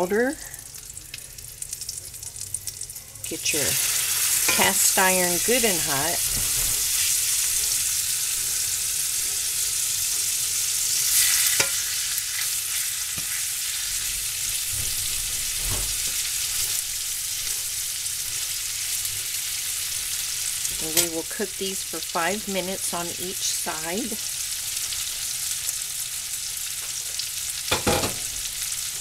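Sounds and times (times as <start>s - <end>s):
steaks sizzling in skillet: 0.0s - 29.0s.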